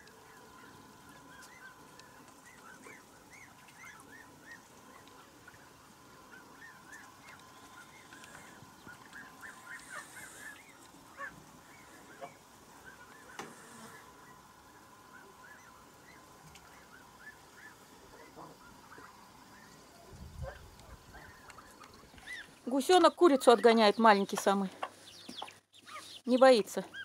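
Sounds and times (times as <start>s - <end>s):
poultry calling: 0.0s - 27.0s.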